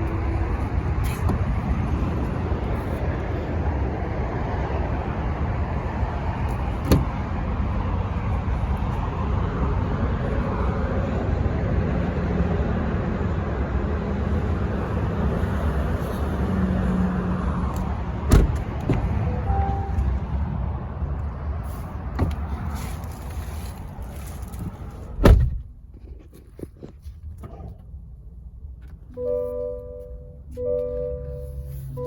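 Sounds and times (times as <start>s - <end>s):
motor vehicle rumble: 0.0s - 32.0s.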